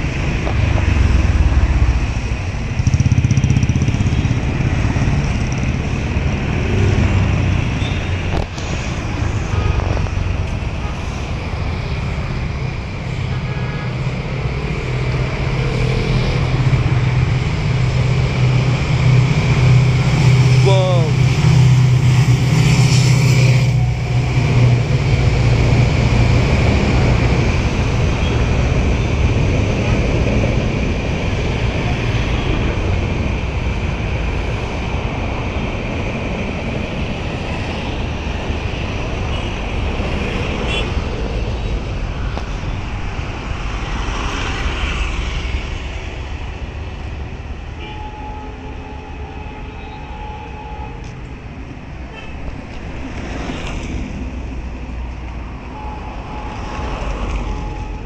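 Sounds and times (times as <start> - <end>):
diesel locomotive engine drone: 0.0 - 58.0
train wheels rumbling on rails: 0.0 - 58.0.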